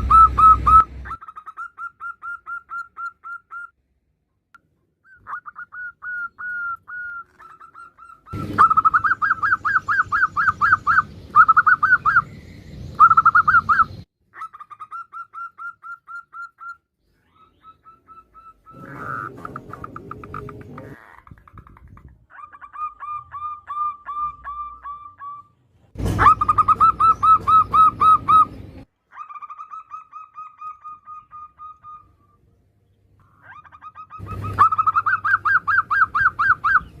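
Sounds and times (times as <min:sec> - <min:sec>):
dove calling rapid notes: 0:00.0 - 0:03.8, 0:05.0 - 0:32.4, 0:33.2 - 0:37.0.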